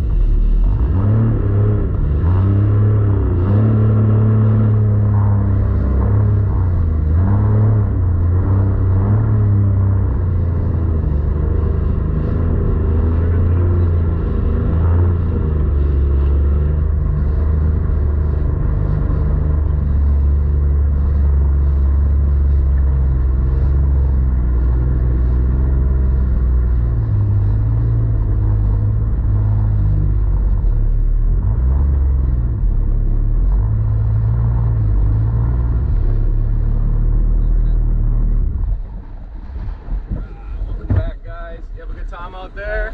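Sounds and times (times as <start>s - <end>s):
jet ski engine running: 0.0s - 42.9s.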